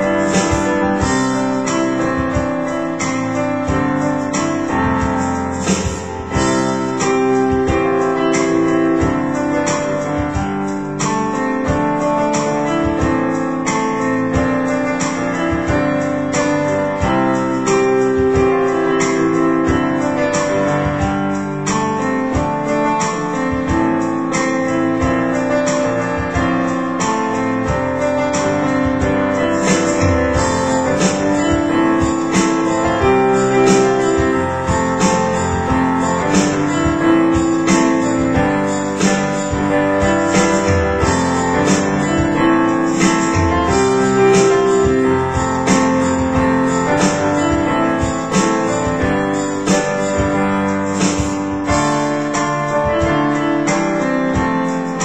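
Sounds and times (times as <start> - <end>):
electronic keyboard playing chords: 0.0 - 55.0.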